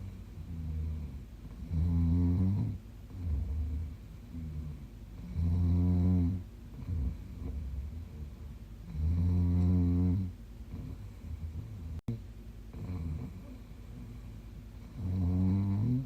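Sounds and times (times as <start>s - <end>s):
woman snoring: 0.5s - 8.3s, 8.9s - 12.1s, 12.7s - 14.1s, 14.8s - 16.0s.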